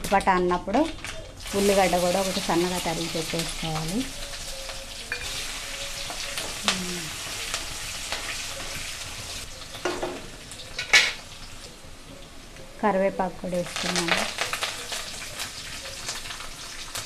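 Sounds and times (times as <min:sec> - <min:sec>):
onion sizzling in hot oil: 0:00.2 - 0:17.0.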